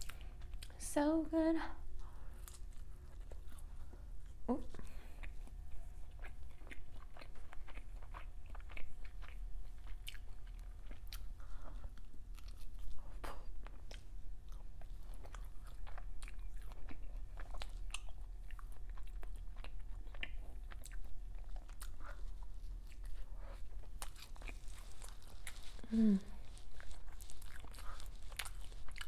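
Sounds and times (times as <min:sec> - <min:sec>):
steady low hum: 0:00.0 - 0:29.0
chewing and biting food: 0:02.0 - 0:29.0.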